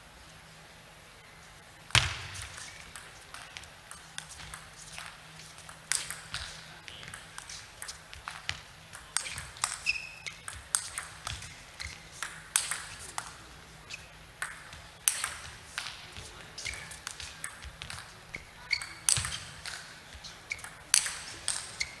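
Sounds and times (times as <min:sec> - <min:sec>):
table tennis ball clicking: 0:02.0 - 0:19.9, 0:20.5 - 0:22.0
shoes squeaking on floor: 0:02.2 - 0:12.4, 0:13.8 - 0:22.0.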